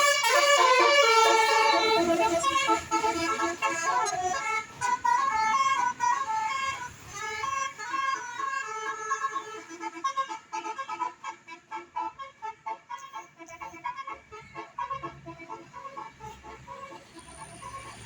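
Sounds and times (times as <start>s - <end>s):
multi-tone bus horn tune: 0.0s - 18.0s.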